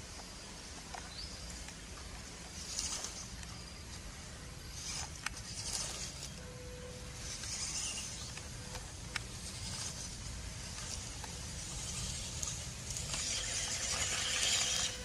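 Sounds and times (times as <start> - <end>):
steady hiss: 0.0 - 15.0
electric motor whine: 2.4 - 15.0.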